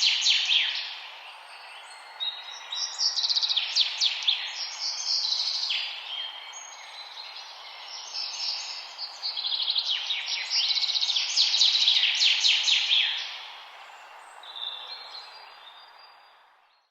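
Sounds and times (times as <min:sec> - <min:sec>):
songbirds trilling and chirping: 0:00.0 - 0:16.9.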